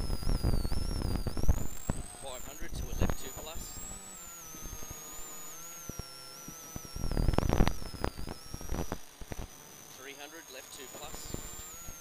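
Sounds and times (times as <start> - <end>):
crackle and static: 0.0 - 12.0
electrical whine and hum: 0.0 - 12.0
scattered clicks: 0.0 - 12.0.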